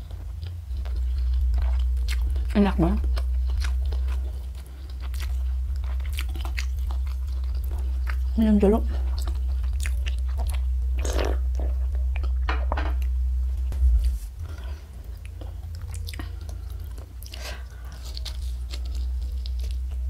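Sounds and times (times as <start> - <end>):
chewing crunchy fried food: 0.0 - 12.4, 14.5 - 20.0
steady low hum: 0.0 - 20.0.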